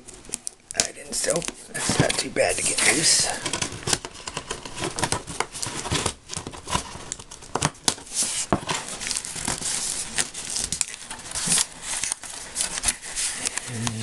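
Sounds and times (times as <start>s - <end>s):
cardboard scraping and crinkling: 1.2s - 14.0s.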